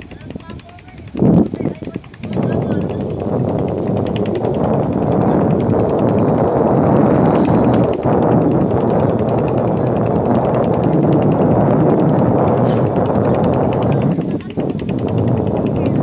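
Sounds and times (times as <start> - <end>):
boat diesel engine running: 0.0 - 16.0
wind rumbling on microphone: 0.0 - 16.0.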